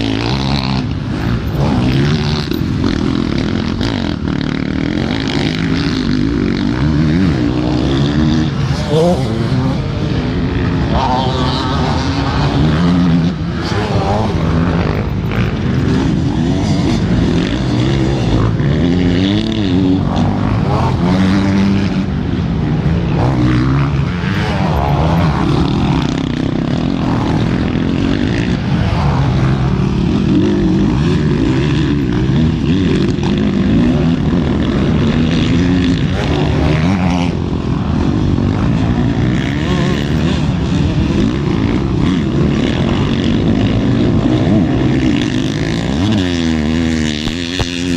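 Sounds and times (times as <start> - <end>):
racing motorcycle engines revving: 0.0 - 47.9.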